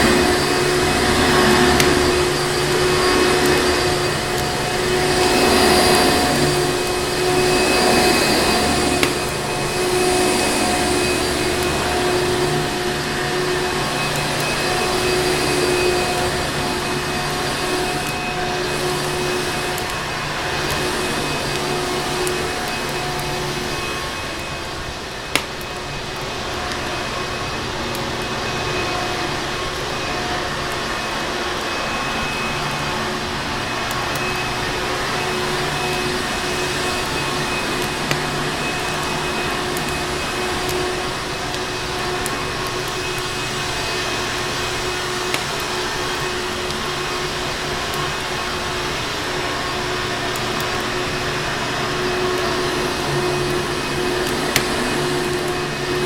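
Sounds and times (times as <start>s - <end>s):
fireplace crackles: 0.0s - 56.0s
vacuum cleaner motor running: 0.0s - 56.0s.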